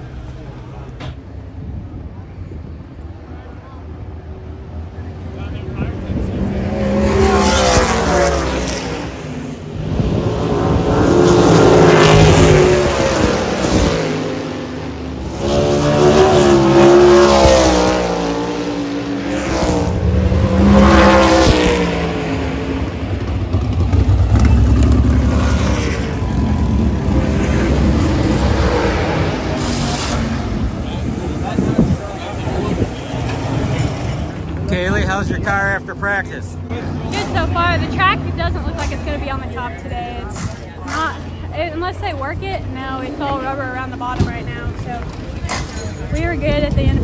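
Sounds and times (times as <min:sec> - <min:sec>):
race car engines passing: 0:00.0 - 0:47.0.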